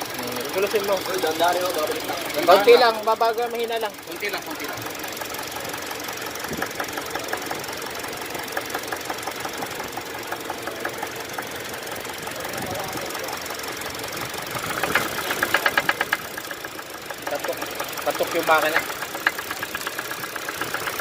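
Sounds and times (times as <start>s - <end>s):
car engine with rhythmic knock: 0.0s - 21.0s.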